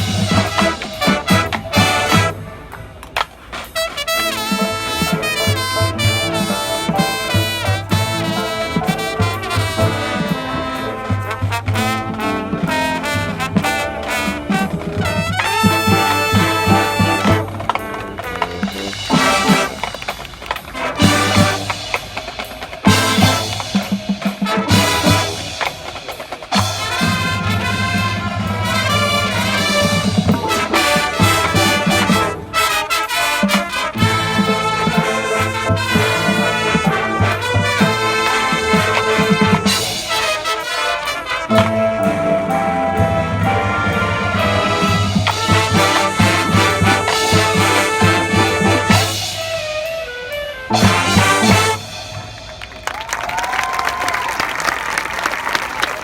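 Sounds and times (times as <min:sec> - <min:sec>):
drum beat: 0:00.0 - 0:50.1, 0:50.7 - 0:56.0
brass chords: 0:00.0 - 0:53.5.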